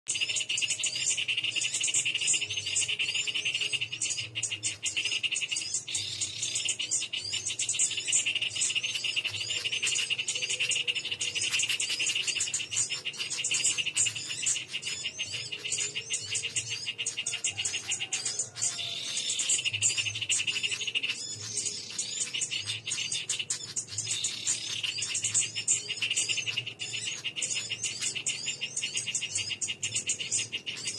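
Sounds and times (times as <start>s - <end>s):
high-pitched chirping: 0.1s - 30.9s.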